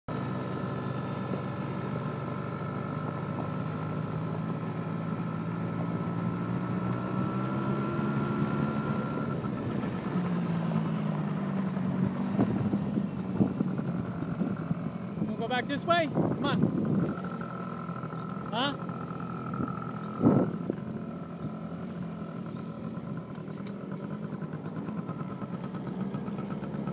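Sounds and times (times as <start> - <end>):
atv engine running: 0.1 - 26.9.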